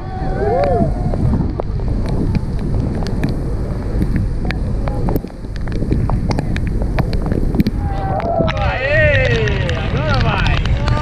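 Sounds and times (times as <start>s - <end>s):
roar of churning water: 0.0s - 11.0s
sharp crackles: 0.0s - 11.0s
wind buffeting microphone: 0.0s - 11.0s.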